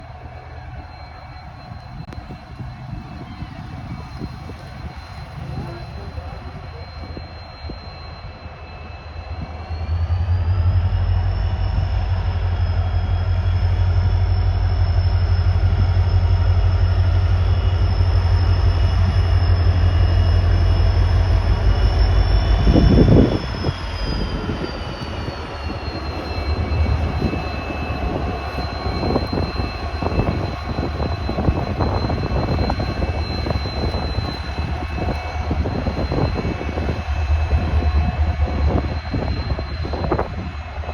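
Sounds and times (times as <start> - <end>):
diesel locomotive engine rumble: 0.0 - 40.9
turbocharger whine: 0.0 - 40.9.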